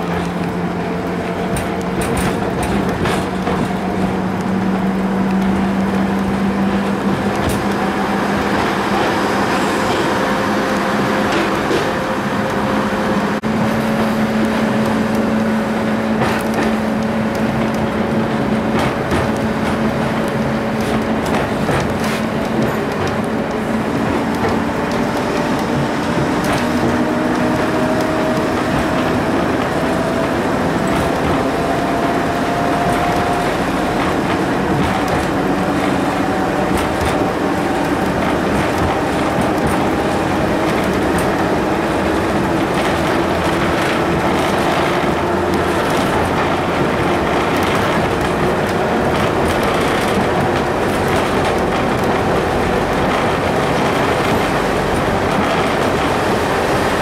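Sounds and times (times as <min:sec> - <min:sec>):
train running with rising hum: 0:00.0 - 0:57.0.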